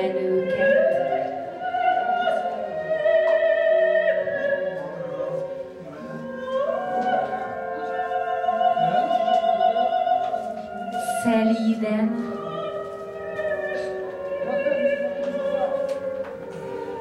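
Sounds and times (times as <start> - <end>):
operatic singing voice: 0.0 - 17.0.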